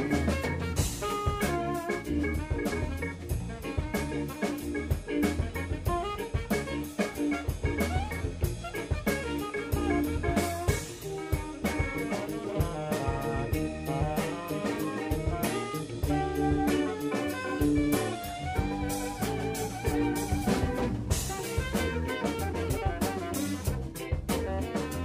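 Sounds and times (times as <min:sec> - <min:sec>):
bass: 0:00.0 - 0:25.0
drum kit beat: 0:00.0 - 0:25.0
electric guitar: 0:00.0 - 0:25.0
horn section: 0:00.0 - 0:25.0.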